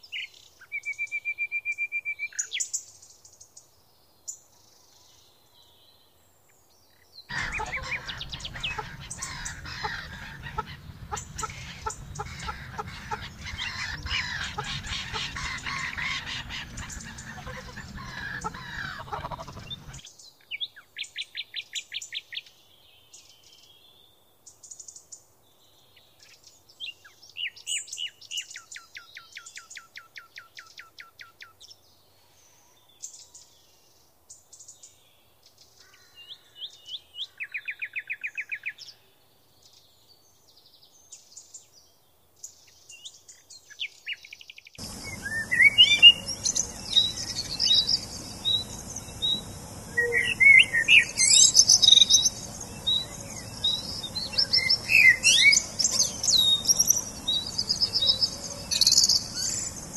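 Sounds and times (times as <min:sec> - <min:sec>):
chorus of bird chirps: 0:00.0 - 0:59.9
small birds singing trills: 0:00.0 - 0:59.9
steady outdoor hiss: 0:00.0 - 0:59.9.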